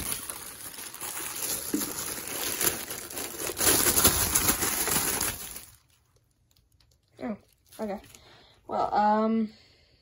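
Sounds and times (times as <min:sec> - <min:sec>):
plastic crinkling and rustling: 0:00.0 - 0:08.6.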